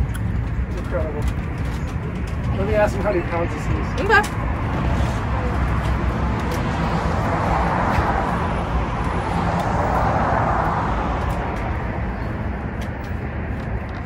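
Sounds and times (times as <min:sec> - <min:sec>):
steady low rumble: 0:00.0 - 0:14.0
vehicle passing: 0:01.4 - 0:14.0.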